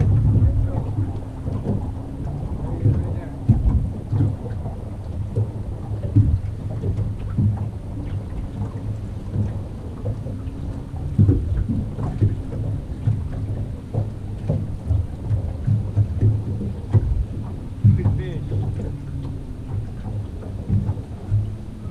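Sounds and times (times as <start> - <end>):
steady low rumble: 0.0 - 21.9
water slapping boat hull: 0.0 - 21.9.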